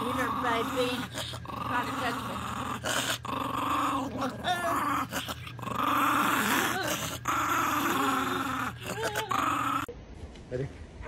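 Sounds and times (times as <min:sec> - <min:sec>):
small dog growling: 0:00.0 - 0:09.9.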